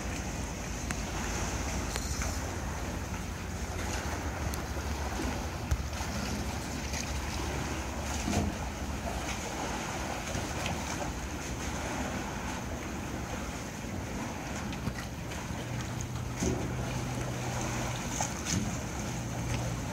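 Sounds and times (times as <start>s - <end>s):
low steady hum: 0.0s - 19.9s
water lapping against pier: 0.0s - 19.9s.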